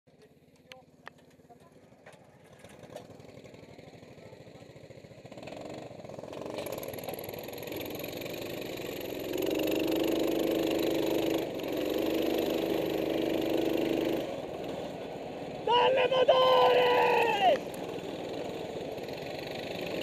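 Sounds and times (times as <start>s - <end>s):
go-kart engine at high revs: 0.3s - 20.0s.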